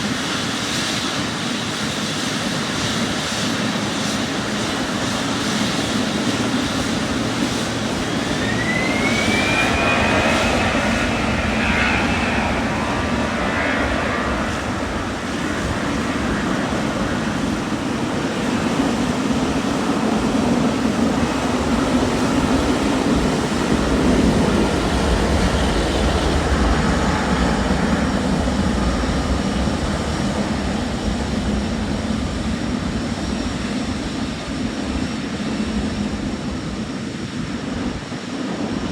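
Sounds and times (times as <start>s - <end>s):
jet engine whine: 0.0s - 38.9s
jet engines rumbling: 0.0s - 38.9s.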